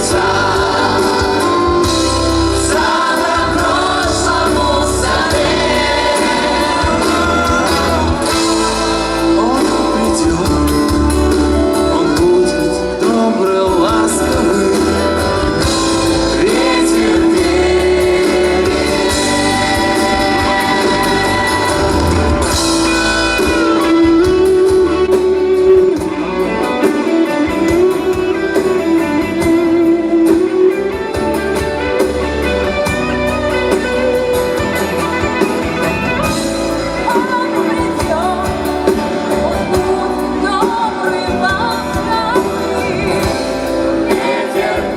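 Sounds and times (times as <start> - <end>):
steady bass: 0.0 - 40.7
live band with singing: 0.0 - 44.9.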